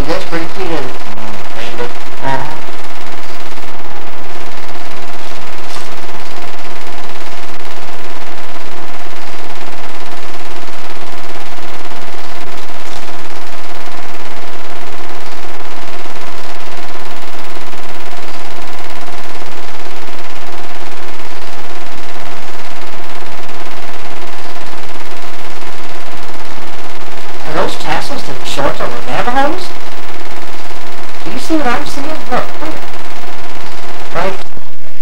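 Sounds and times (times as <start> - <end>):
projector hum: 0.0 - 35.0.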